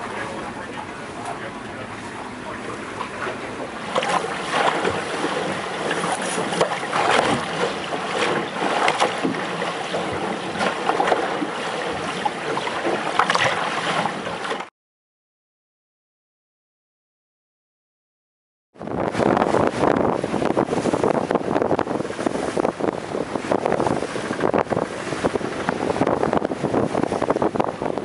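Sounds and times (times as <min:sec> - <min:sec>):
water rushing along a boat hull: 0:00.0 - 0:14.7, 0:18.8 - 0:28.0
waves slapping against hull: 0:00.0 - 0:14.7, 0:18.8 - 0:28.0.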